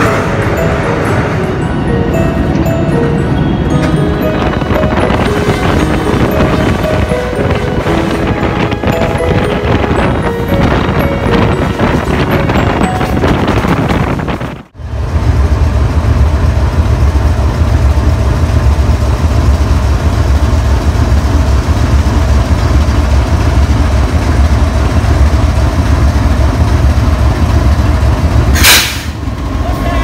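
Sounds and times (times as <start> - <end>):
locomotive engine deep rumble: 0.0 - 30.0.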